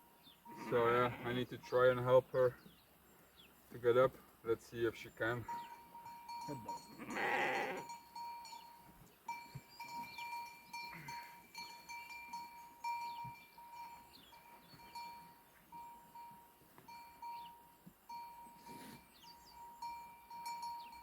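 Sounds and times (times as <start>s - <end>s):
livestock bell ringing: 0.0s - 2.0s, 5.2s - 21.0s.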